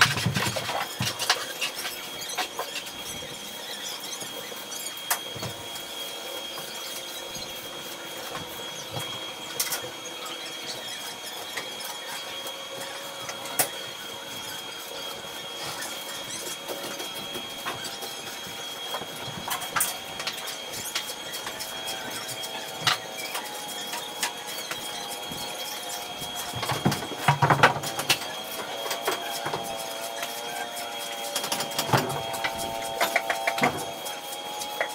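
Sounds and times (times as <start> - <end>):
crackling welding arc: 0.0 - 34.9
steady high whine: 0.0 - 34.9.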